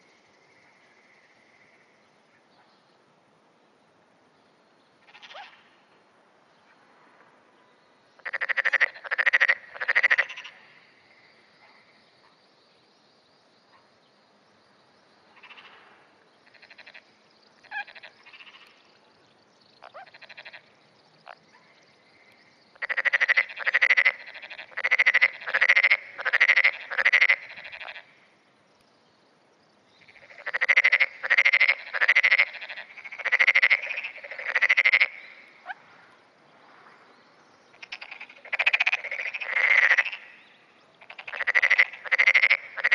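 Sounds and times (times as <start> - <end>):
frogs croaking: 0.0 - 2.7, 4.6 - 42.9
faint distant frogs calling: 0.0 - 42.9.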